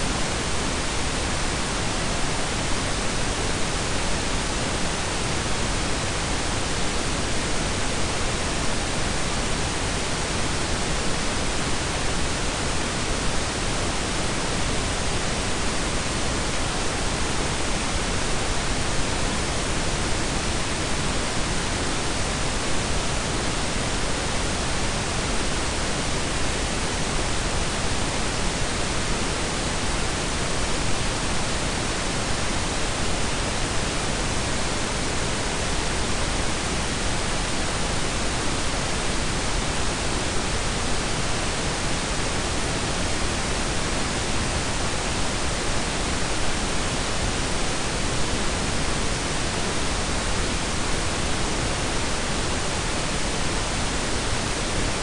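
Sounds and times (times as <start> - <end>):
pink and brown noise: 0.0 - 55.0.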